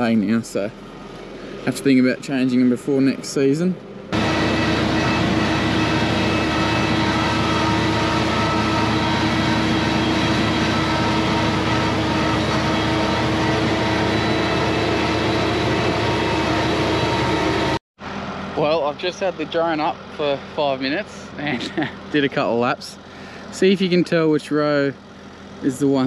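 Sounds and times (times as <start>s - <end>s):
constant hum: 0.0s - 26.0s
tractor and mower drone: 0.0s - 26.0s.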